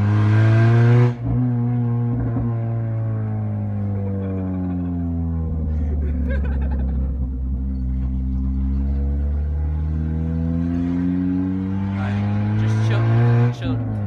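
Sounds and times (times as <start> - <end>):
car engine from inside cabin: 0.0 - 14.0.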